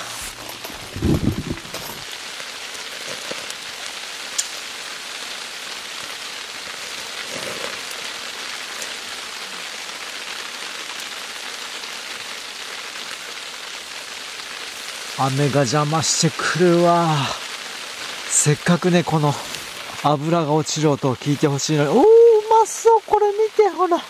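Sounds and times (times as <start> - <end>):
rain hissing and pattering: 0.0 - 24.0.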